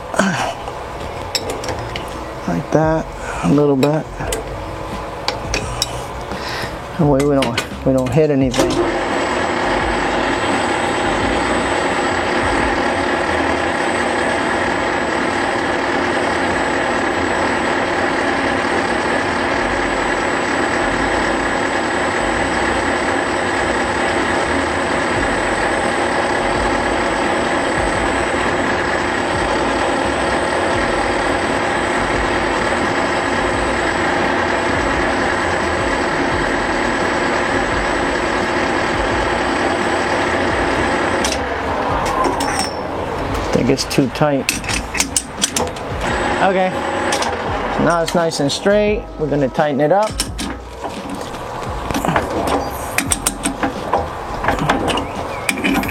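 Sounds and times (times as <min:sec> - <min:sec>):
metal lathe whirring: 0:00.0 - 0:55.9
thin high whine: 0:00.0 - 0:55.9.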